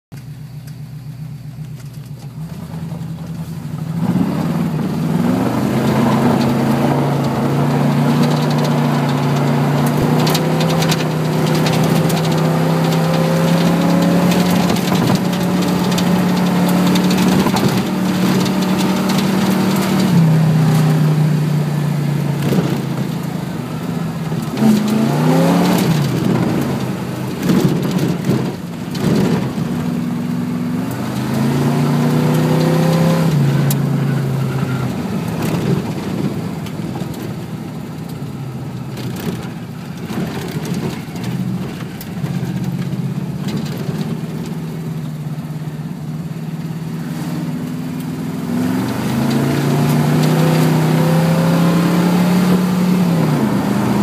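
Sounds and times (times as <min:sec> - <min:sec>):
car engine running: 0:00.1 - 0:54.0.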